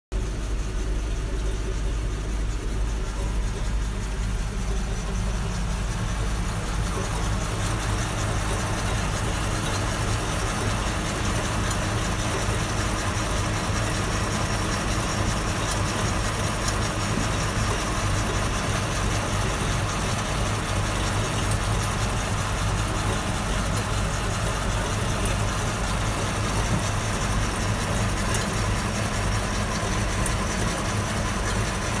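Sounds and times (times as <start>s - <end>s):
tractor engine running: 0.1s - 32.0s.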